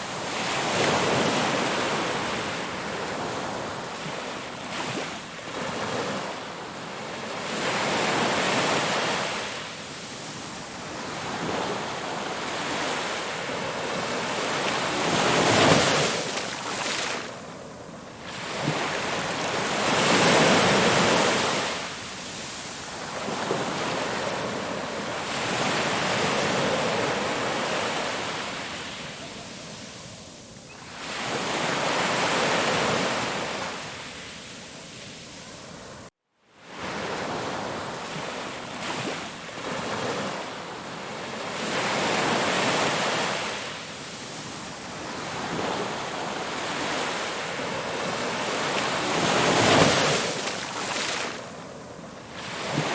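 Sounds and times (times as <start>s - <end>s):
ocean waves breaking on shore: 0.0s - 52.9s.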